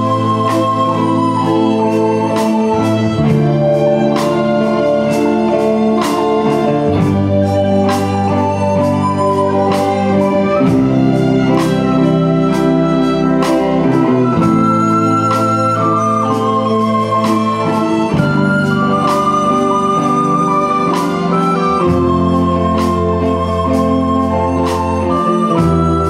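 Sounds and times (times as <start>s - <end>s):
keyboard organ-like chords: 0.0s - 26.0s
soprano recorder melody: 0.0s - 26.0s
steady drum beat: 0.0s - 26.0s.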